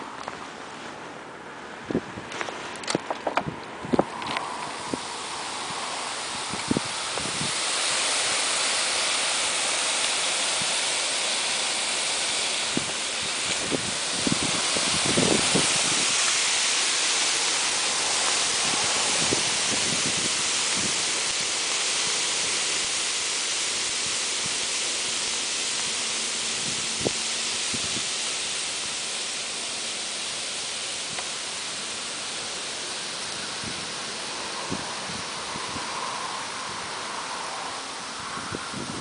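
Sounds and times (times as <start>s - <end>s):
fizzing hiss: 2.3s - 39.0s.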